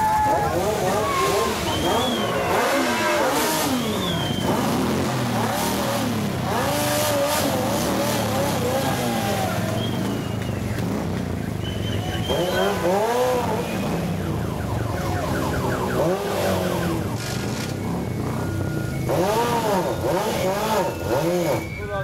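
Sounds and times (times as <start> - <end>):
motorcycle engines idling: 0.0 - 22.0
motorcycle engine revs: 0.3 - 21.8.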